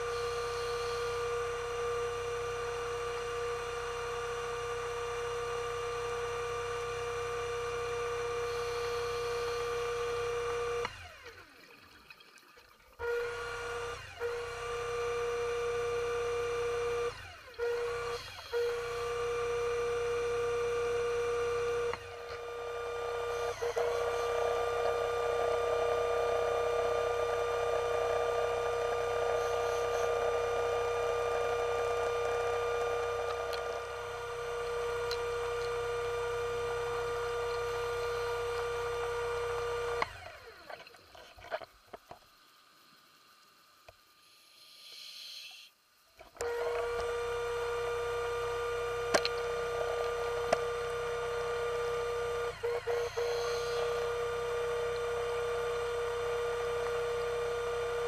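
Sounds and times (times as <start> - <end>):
electric motor whining: 0.0 - 11.4, 13.0 - 40.8, 46.3 - 58.0.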